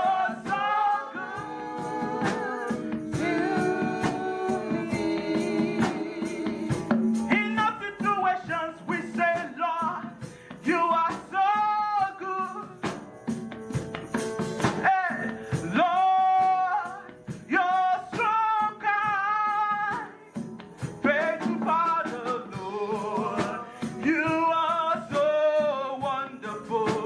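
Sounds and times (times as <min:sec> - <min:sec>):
person singing worship song: 0:00.0 - 0:13.2, 0:14.8 - 0:27.0
band playing: 0:00.0 - 0:27.0
percussion strikes: 0:00.0 - 0:27.0.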